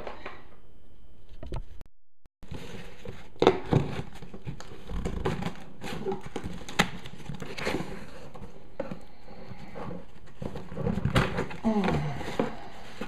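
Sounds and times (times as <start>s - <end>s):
cardboard and tape rustling: 2.4s - 13.0s.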